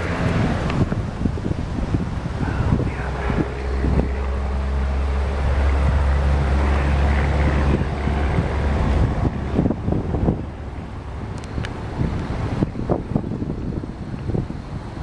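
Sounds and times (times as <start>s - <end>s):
low hum: 0.0s - 14.5s
wind buffeting microphone: 0.0s - 15.0s.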